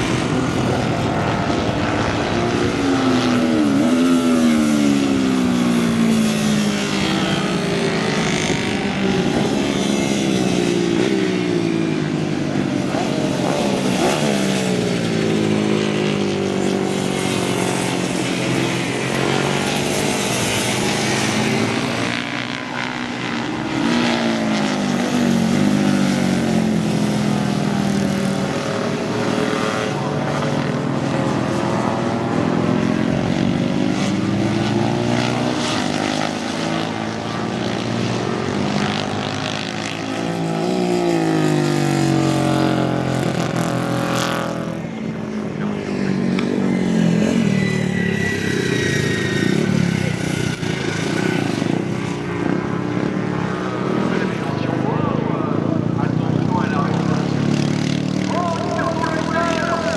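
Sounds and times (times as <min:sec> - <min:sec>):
racing motorcycles revving past: 0:00.0 - 0:59.9.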